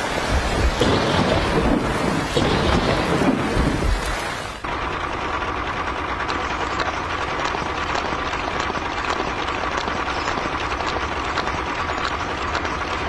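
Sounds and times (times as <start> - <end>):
vehicle engine running: 0.2 - 13.0.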